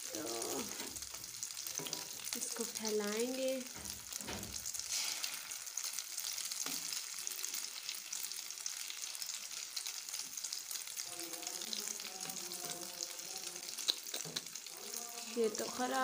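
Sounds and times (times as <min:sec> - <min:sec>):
egg sizzling in hot oil: 0:00.0 - 0:16.0.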